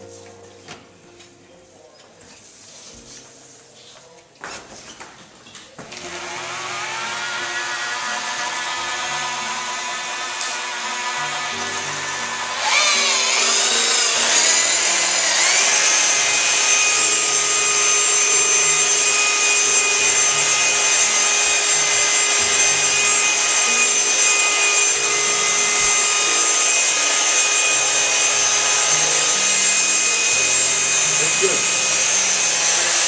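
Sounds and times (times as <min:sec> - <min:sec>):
floor polisher motor whine: 0:05.8 - 0:33.0.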